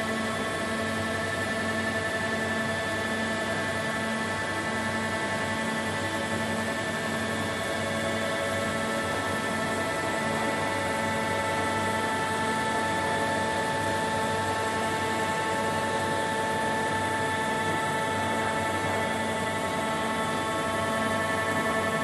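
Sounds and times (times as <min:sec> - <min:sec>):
machining centre high whine: 0:00.0 - 0:22.0.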